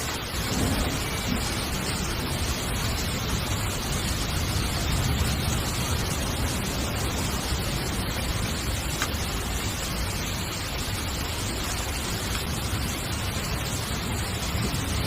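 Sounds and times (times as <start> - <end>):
heavy rain on a tent: 0.0 - 15.0.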